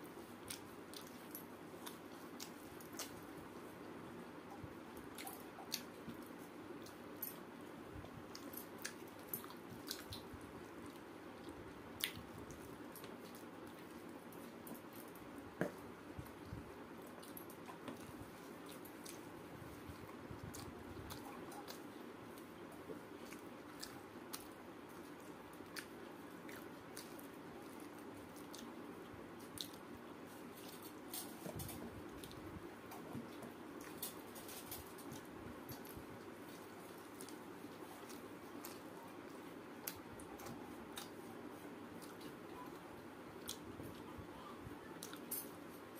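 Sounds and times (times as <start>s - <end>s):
fingers squishing moist rice: 0.1s - 45.9s
wet eating sounds: 4.5s - 45.9s.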